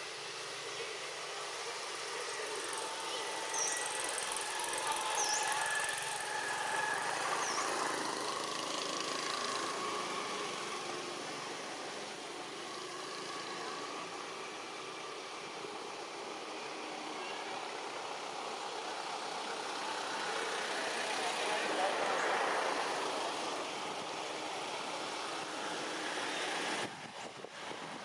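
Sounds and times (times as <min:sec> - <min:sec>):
faint drawn-out tones: 0:00.0 - 0:26.9
outdoor background hiss: 0:00.0 - 0:28.0.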